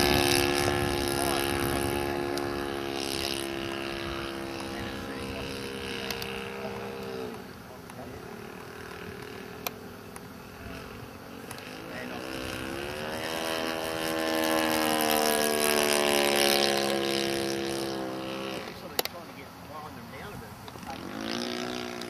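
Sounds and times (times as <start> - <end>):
model airplane engine buzzing: 0.0 - 22.0.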